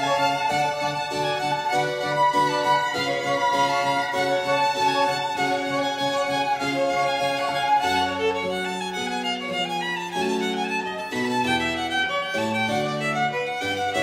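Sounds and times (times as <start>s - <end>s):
two violins playing: 0.0s - 14.0s.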